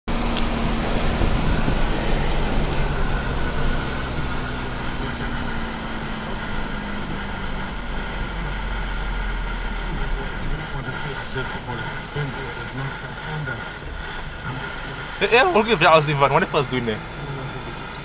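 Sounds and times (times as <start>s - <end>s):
car engine and tyre rumble: 0.0s - 18.0s
tyres hissing on wet road: 0.1s - 18.0s.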